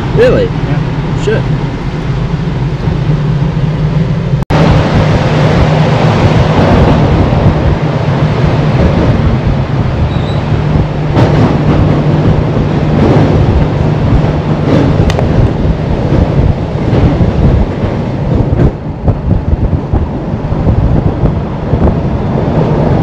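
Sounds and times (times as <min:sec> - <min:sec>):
vehicle driving through tunnel: 0:00.0 - 0:23.0.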